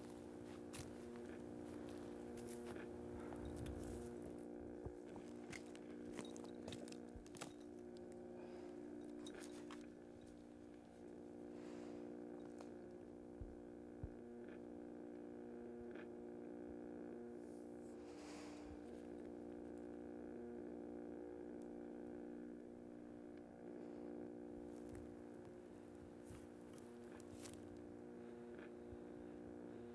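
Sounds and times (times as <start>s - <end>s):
low hum of held tones: 0.0s - 29.9s.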